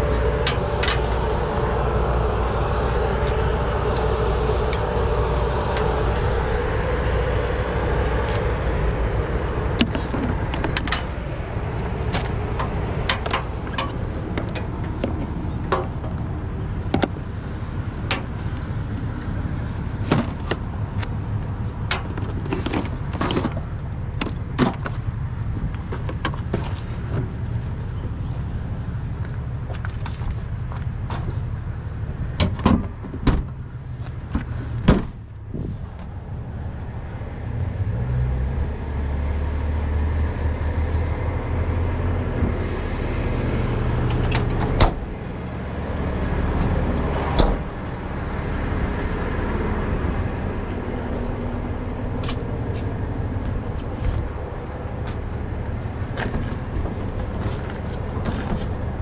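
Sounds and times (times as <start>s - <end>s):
loud rumble: 0.0s - 28.4s, 30.3s - 59.0s
truck engine idling: 0.0s - 59.0s.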